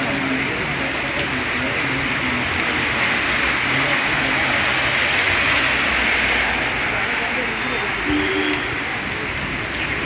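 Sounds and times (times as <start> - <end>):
car tyres swishing through water: 0.0 - 10.0
heavy rain pouring: 0.0 - 10.0.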